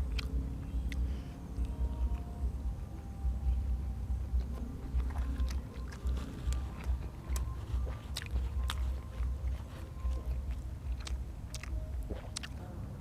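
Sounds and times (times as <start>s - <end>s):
person chewing food: 0.0s - 2.3s, 3.4s - 12.6s
faint background music: 0.0s - 13.0s.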